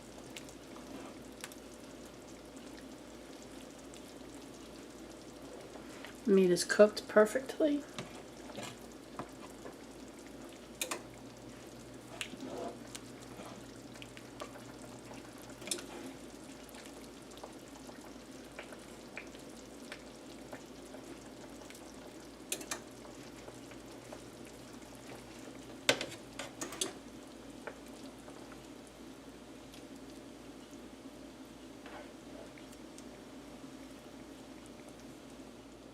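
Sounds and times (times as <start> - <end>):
gravy sizzling in a pan: 0.0 - 35.9.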